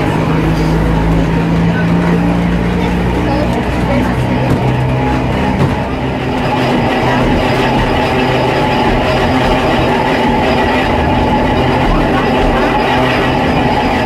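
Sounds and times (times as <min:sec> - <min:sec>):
electric railcar motor humming: 0:00.0 - 0:14.0
wheels rumbling on rails: 0:00.0 - 0:14.0.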